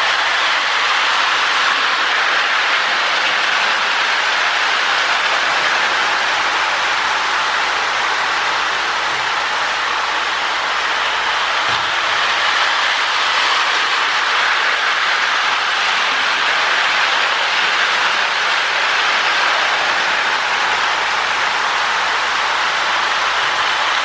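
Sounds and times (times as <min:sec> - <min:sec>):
toy train whirring on track: 0:00.0 - 0:24.0.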